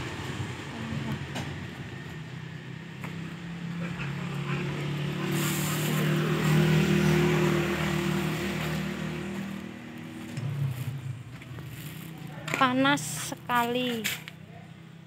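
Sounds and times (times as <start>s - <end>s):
vehicle engine passing: 0.0s - 13.5s.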